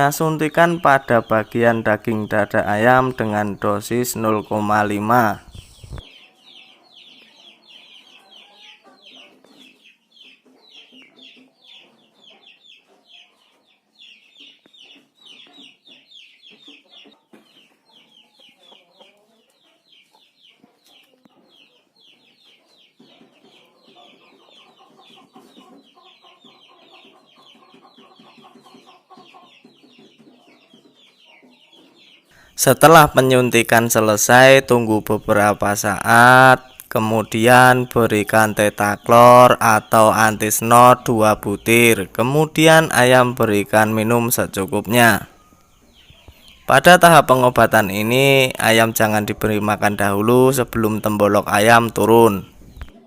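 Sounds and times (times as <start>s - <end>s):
chickens clucking: 0.0s - 53.0s
chicks peeping: 0.0s - 53.0s.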